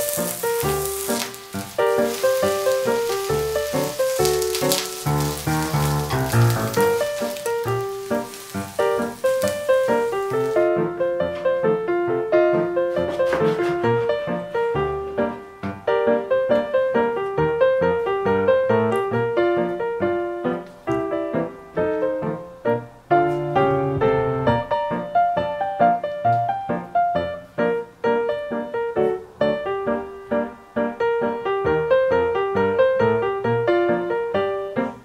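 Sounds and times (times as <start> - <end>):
piano music: 0.0 - 35.0.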